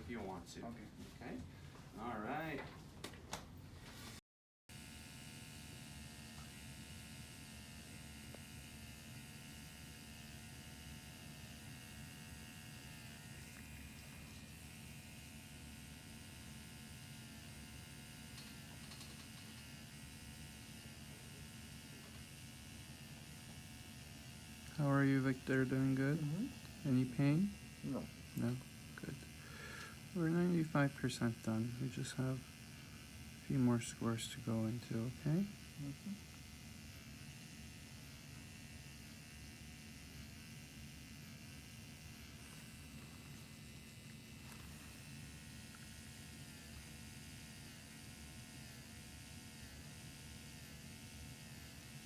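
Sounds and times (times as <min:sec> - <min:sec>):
motorized handpiece humming: 0:04.8 - 0:52.0.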